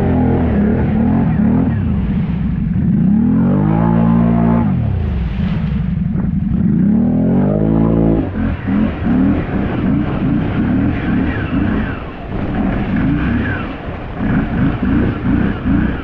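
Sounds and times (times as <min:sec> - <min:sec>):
atv engine revving: 0:00.0 - 0:05.3, 0:06.1 - 0:16.0.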